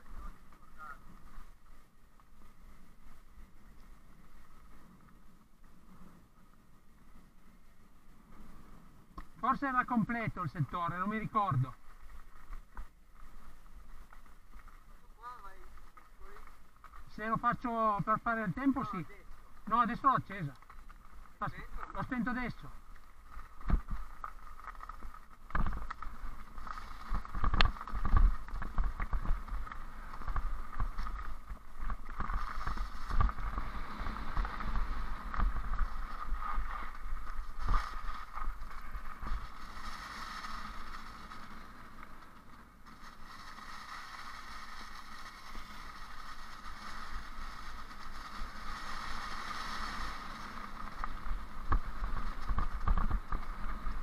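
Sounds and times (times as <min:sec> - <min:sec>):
bike rushing over forest trail: 0:00.0 - 0:54.0
wind rumbling on microphone: 0:10.3 - 0:54.0.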